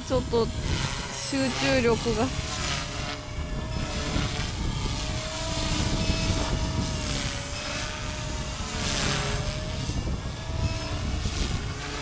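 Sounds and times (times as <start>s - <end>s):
rc helicopter motor whine: 0.0s - 12.0s
wind rumble on microphone: 0.0s - 12.0s.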